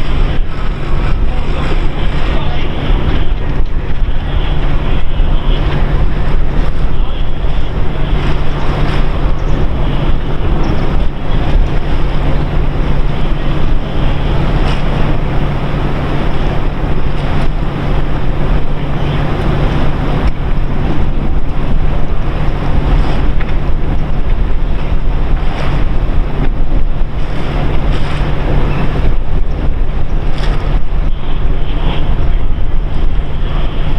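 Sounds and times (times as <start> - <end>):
low hum: 0.0 - 33.9
wind buffeting microphone: 0.0 - 33.9.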